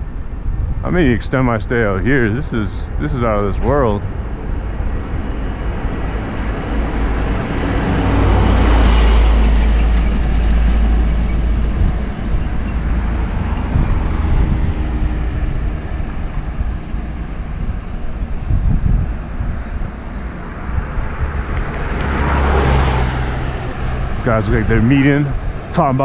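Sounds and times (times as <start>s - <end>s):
wind rumbling on microphone: 0.0s - 26.0s
vehicle passing: 0.5s - 26.0s.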